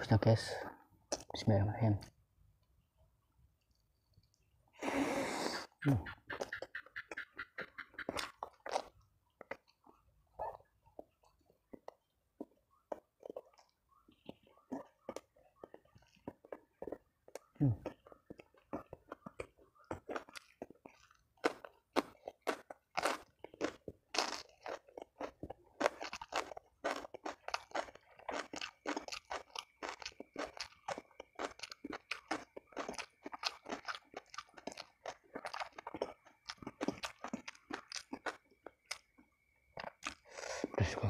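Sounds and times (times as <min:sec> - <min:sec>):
cucumber crunching: 0:01.1 - 0:02.2, 0:05.8 - 0:10.0, 0:10.9 - 0:40.8.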